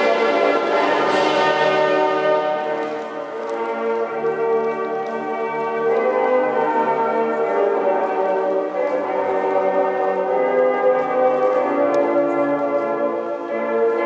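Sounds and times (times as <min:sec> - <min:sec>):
ceremonial music with bell-like chords: 0:00.0 - 0:14.0.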